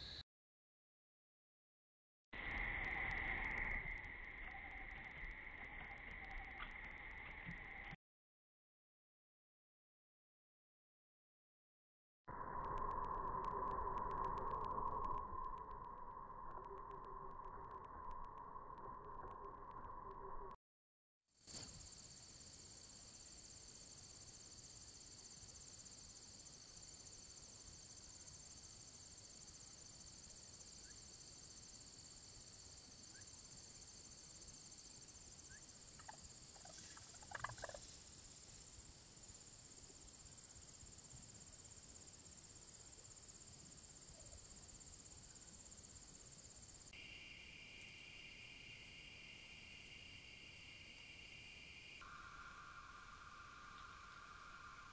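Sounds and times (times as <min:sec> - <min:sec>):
high-pitched insect chorus: 0:00.0 - 0:00.2, 0:02.4 - 0:08.0, 0:12.3 - 0:20.6, 0:21.5 - 0:54.9
lower-pitched insect chorus: 0:00.0 - 0:00.2, 0:02.4 - 0:08.0, 0:12.3 - 0:20.6, 0:21.4 - 0:54.9.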